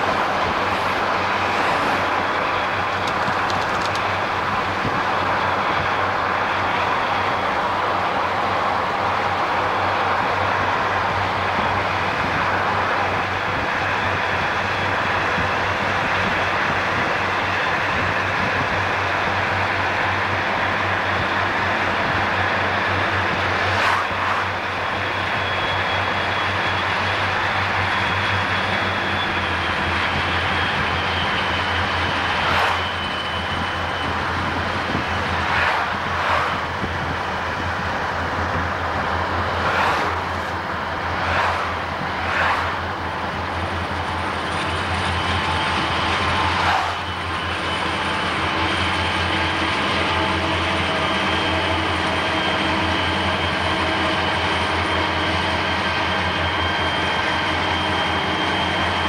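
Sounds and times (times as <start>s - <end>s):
car road and engine drone: 0.0s - 59.0s
freight train running: 0.0s - 59.0s.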